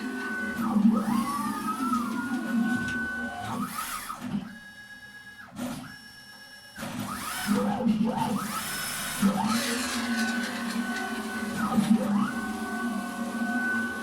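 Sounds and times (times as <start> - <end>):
machine motor whine: 0.0 - 14.0.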